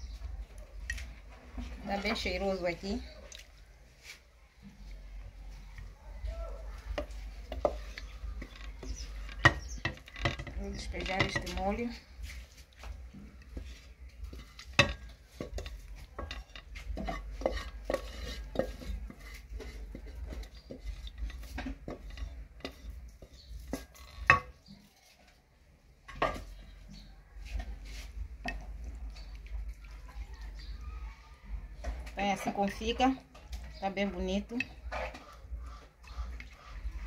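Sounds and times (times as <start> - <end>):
wooden spoon scraping metal pot: 0.8 - 5.2, 6.8 - 25.4, 26.1 - 30.8, 31.5 - 37.0.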